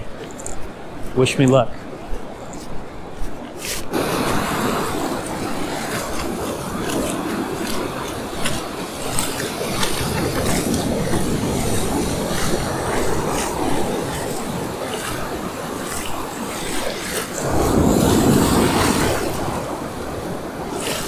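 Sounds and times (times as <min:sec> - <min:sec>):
ocean surf breaking: 0:03.5 - 0:21.0.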